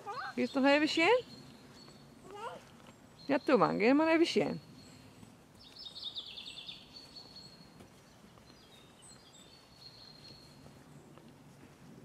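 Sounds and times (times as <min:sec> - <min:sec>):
songbird singing: 0:00.0 - 0:11.5.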